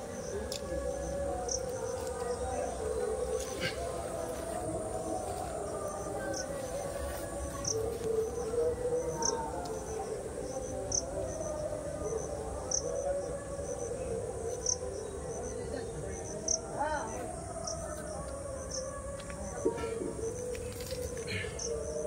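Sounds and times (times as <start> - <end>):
cricket chirping: 0.0 - 22.0
low wavering background drone: 0.0 - 22.0.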